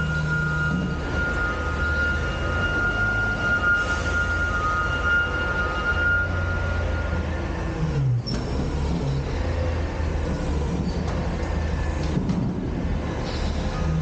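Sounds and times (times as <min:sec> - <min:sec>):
garbage truck diesel engine: 0:00.0 - 0:14.0.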